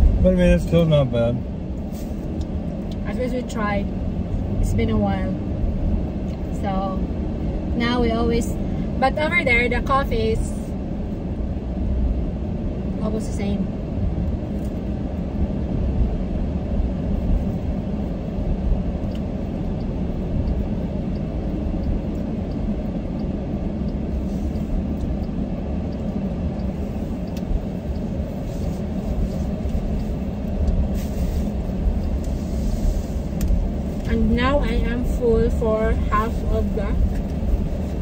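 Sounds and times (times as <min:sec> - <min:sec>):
road and engine rumble: 0:00.0 - 0:38.0.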